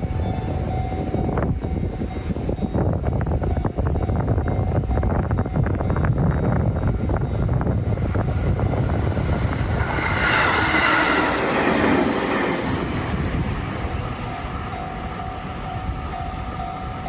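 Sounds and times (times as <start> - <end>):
train rumble: 0.0 - 17.0
train rushing noise: 0.0 - 17.0.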